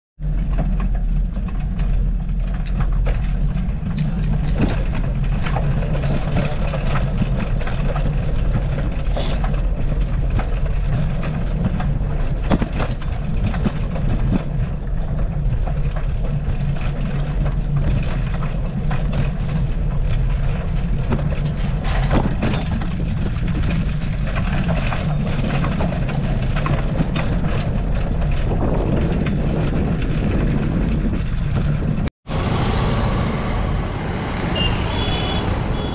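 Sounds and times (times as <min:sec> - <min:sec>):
knocks and rattles from bumps: 0:00.2 - 0:32.1
motorcycle engine cruising: 0:00.2 - 0:35.9
tyre and road noise: 0:00.2 - 0:35.9.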